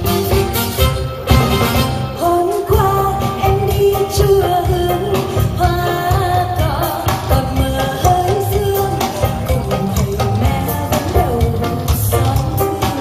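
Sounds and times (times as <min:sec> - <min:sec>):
electric guitar: 0:00.0 - 0:13.0
steady drum beat: 0:00.0 - 0:13.0
woman singing live: 0:02.0 - 0:13.0.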